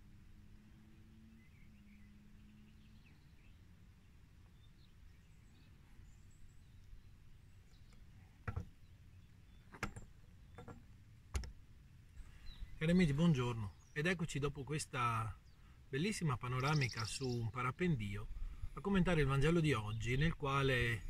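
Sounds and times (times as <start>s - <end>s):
faint outdoor background noise: 0.0s - 21.0s.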